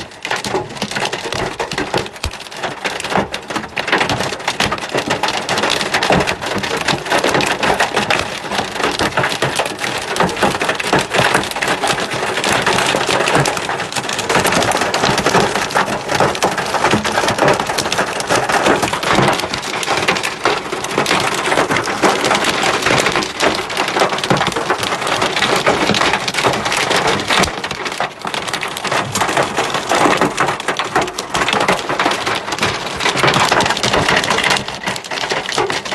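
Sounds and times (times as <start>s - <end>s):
hailstones pelting down: 0.0s - 35.9s
hiss of heavy rain: 0.0s - 35.9s.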